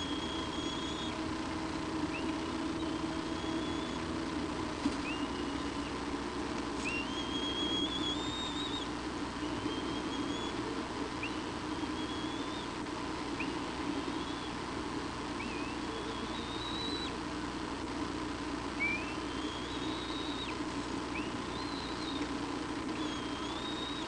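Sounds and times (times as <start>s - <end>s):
eagle high whistled calls: 0.0s - 1.3s, 2.1s - 4.2s, 5.0s - 6.0s, 6.8s - 14.6s, 15.4s - 17.2s, 18.8s - 24.0s
steady low hum: 0.0s - 24.0s.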